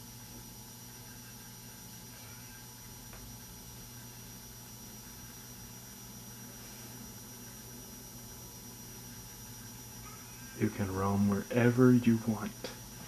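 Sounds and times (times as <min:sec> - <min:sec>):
electrical hum and hiss: 0:00.0 - 0:13.0
thin high whine: 0:00.0 - 0:13.0.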